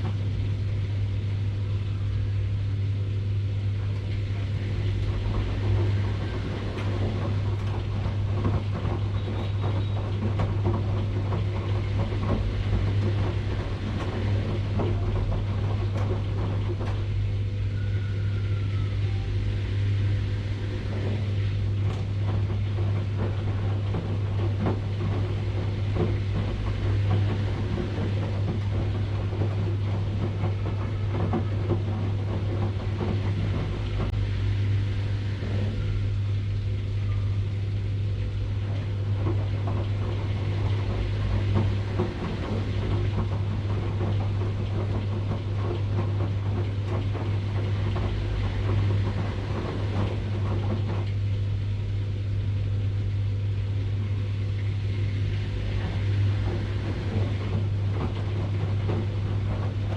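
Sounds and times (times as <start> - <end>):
rough churning noise: 0.0 - 59.9
washing machine hum: 0.0 - 59.9.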